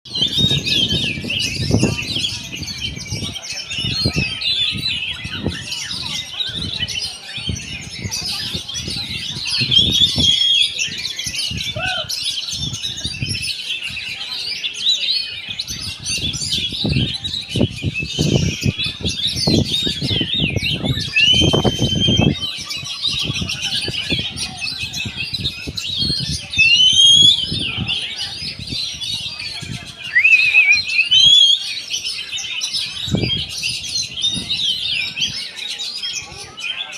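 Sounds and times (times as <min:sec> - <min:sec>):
bird singing whistles and trills: 0:00.1 - 0:36.2.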